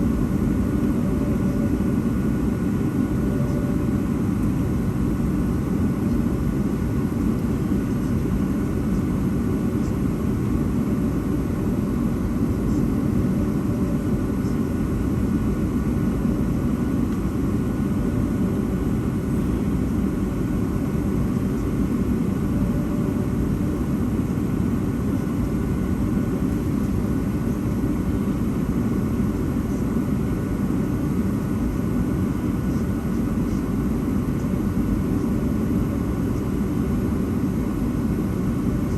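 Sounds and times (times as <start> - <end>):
aircraft cabin engine noise: 0.0 - 38.9.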